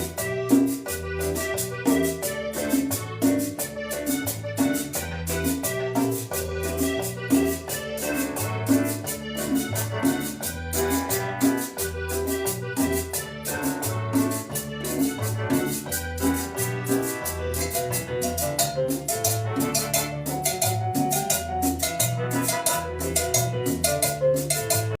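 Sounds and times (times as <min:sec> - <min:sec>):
latin dance music: 0:00.0 - 0:25.0.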